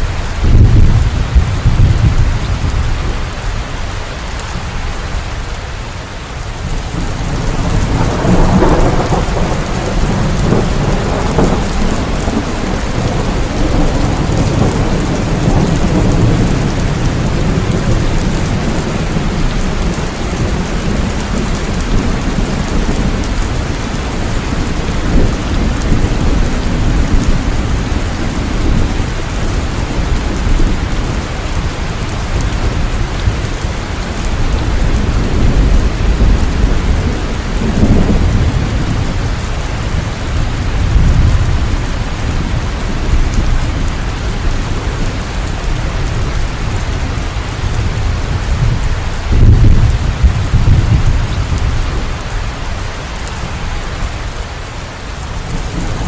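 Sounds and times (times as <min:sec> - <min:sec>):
thunder rumbling low: 0:00.0 - 0:03.4, 0:06.6 - 0:54.0
steady rain falling: 0:00.0 - 0:56.0.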